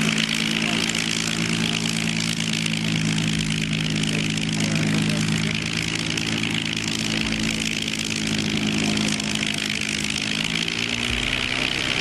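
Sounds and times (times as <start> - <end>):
propeller plane engine running: 0.0 - 12.0.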